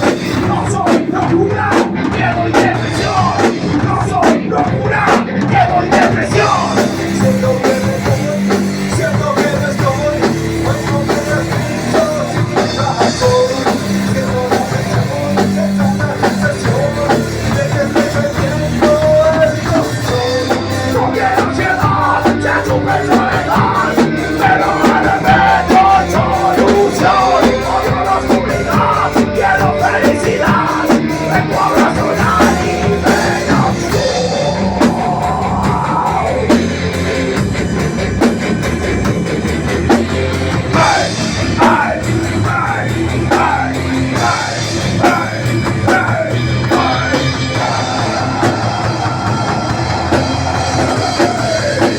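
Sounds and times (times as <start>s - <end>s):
metal band playing live: 0.0s - 51.9s.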